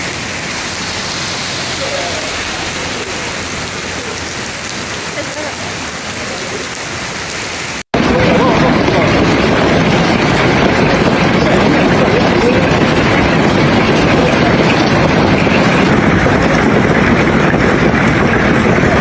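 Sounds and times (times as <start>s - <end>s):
heavy rain and hail falling: 0.0s - 19.0s.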